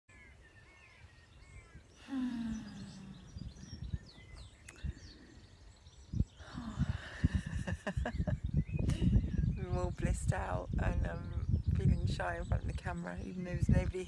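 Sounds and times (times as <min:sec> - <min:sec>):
small birds chirping: 0:00.1 - 0:14.0
wind rumbling on microphone: 0:00.1 - 0:14.0.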